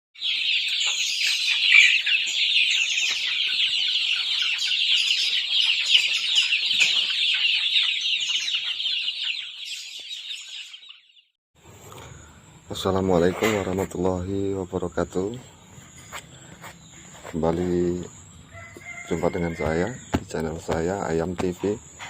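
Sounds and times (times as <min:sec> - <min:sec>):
chickens peeping: 0:00.2 - 0:22.0.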